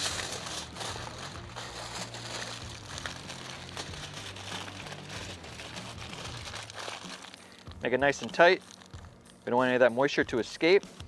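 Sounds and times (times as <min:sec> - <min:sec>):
wrapping material crinkling: 0:00.0 - 0:09.6.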